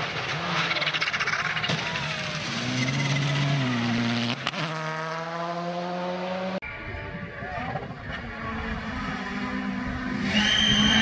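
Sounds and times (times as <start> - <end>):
rally car engine at high revs: 0.0 - 6.6, 7.6 - 11.0.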